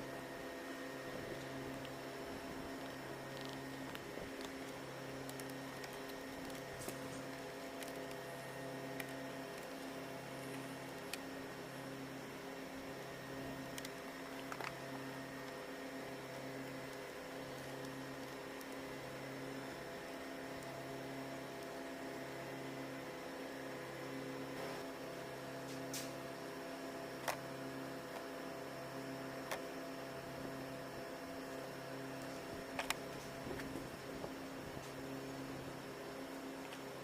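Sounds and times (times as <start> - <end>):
pulsing electrical hum: 0.0 - 37.0.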